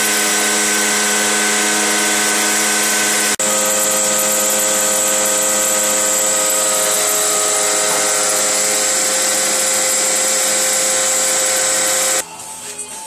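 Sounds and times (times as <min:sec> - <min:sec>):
milling machine whine: 0:00.0 - 0:12.2.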